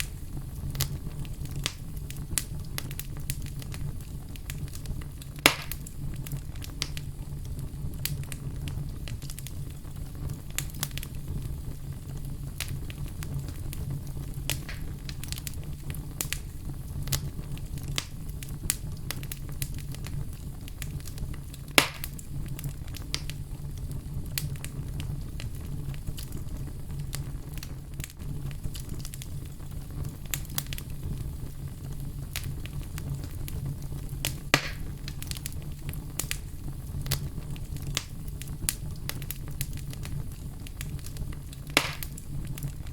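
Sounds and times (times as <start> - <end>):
fire popping and snapping: 0.0 - 42.9
low rumble of flame: 0.0 - 42.9.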